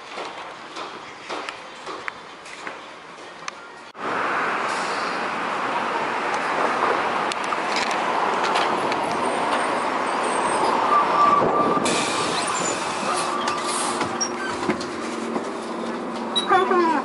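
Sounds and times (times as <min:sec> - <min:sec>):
bus engine and road noise: 0:00.0 - 0:17.0
street traffic: 0:00.0 - 0:17.0.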